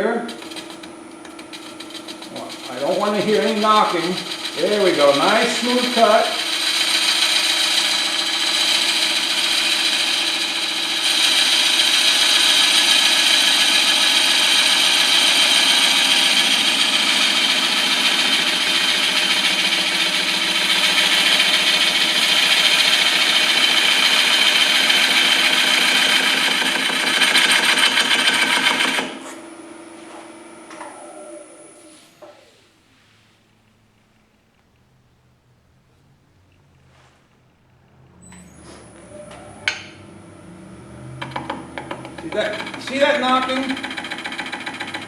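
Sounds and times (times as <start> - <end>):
turning tool cutting wood: 0.0 - 29.6, 37.9 - 45.0
wood lathe running: 0.0 - 32.0, 38.0 - 45.0.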